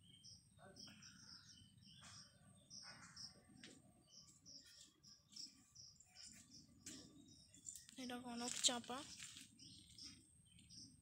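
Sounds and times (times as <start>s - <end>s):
faint small-bird chirping: 0.0s - 11.0s.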